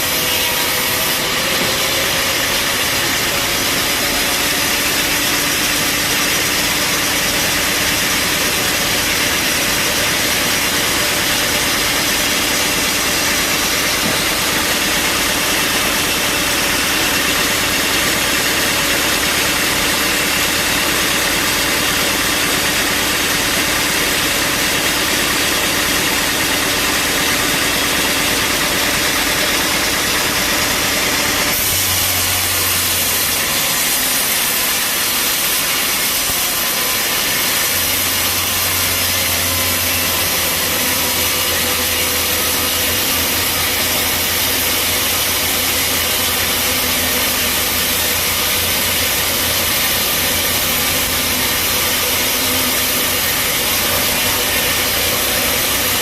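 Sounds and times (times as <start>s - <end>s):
bandsaw machinery running: 0.0s - 56.0s.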